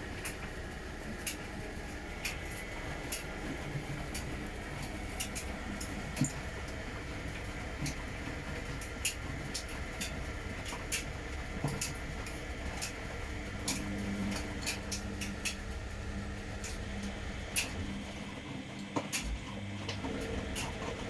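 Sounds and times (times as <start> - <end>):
washing machine motor and drum hum: 0.0 - 21.0.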